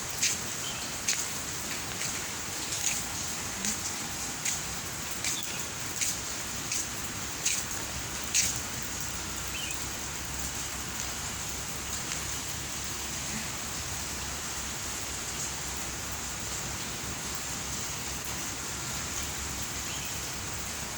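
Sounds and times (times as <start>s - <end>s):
heavy rain falling: 0.0s - 20.9s.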